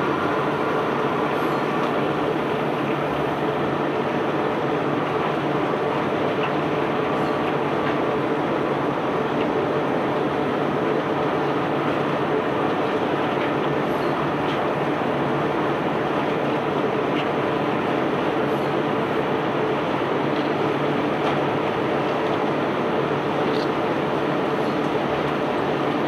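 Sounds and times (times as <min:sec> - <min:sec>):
machinery rumbling under load: 0:00.0 - 0:26.0.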